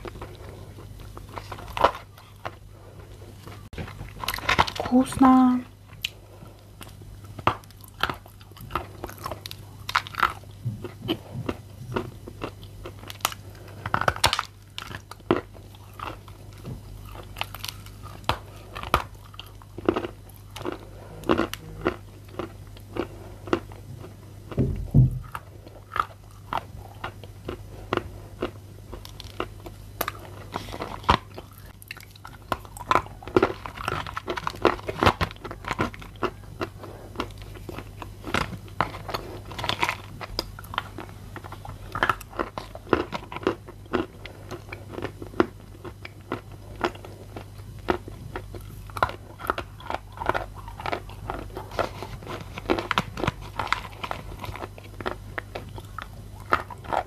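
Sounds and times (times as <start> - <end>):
clay being chewed crunchily: 0.0 - 5.0, 5.6 - 57.0
steady low hum: 0.0 - 57.0.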